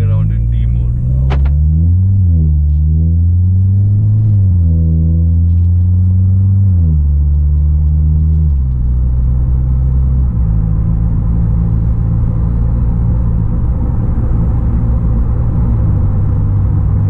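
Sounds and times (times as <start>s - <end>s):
car exhaust drone inside cabin: 0.0s - 17.0s.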